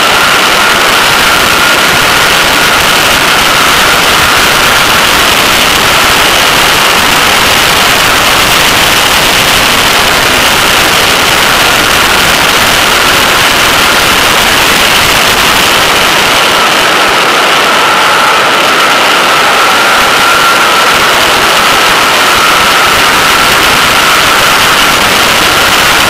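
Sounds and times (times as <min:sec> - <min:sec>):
wind rush over microphone: 0:00.0 - 0:26.0.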